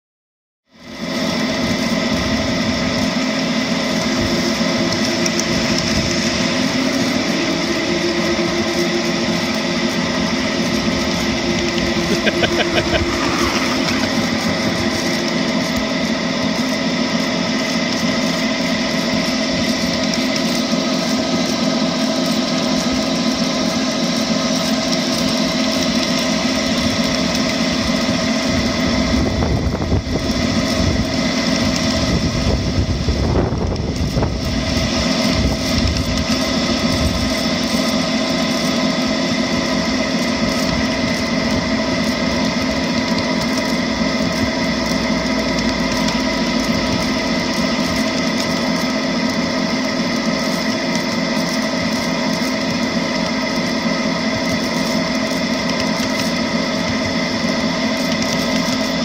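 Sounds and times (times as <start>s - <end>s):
miniature locomotive drive hum: 0.7s - 59.0s.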